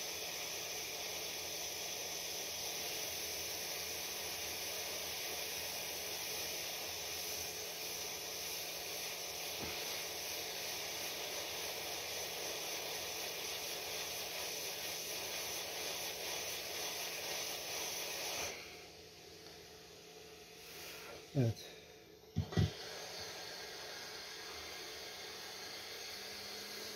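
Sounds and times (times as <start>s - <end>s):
hot air gun hissing: 0.0s - 26.9s.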